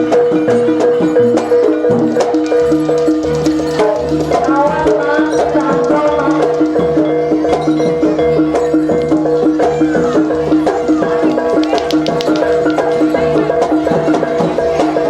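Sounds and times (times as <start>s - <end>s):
drums: 0.0s - 15.0s
gamelan music: 0.0s - 15.0s
wavering melody line: 0.0s - 15.0s.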